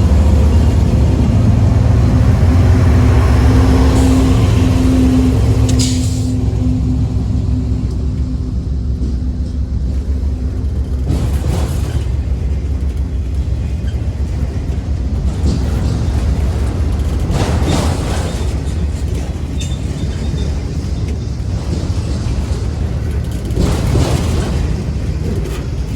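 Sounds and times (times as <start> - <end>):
freight train rolling past: 0.0 - 25.9.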